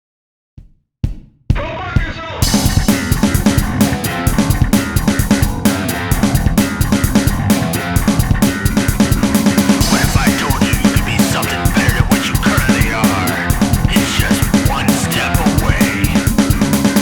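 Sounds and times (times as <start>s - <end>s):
drum kit fast beat: 0.6s - 17.0s
rock band playing: 2.4s - 17.0s.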